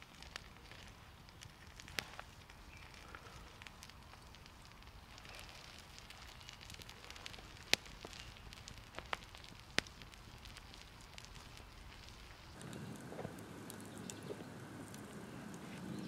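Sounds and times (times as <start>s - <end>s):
campfire crackling: 0.0s - 16.0s
sharp fire pops: 0.0s - 16.0s.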